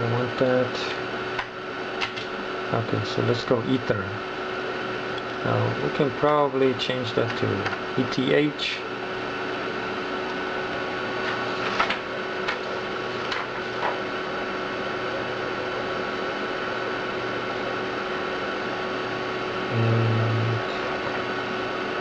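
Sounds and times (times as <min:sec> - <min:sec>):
computer hum and whine: 0:00.0 - 0:22.0.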